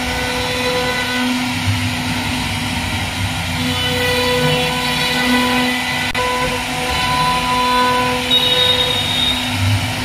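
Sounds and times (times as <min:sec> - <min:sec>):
router bit cutting wood: 0:00.0 - 0:10.0
router spindle whine: 0:00.0 - 0:10.0.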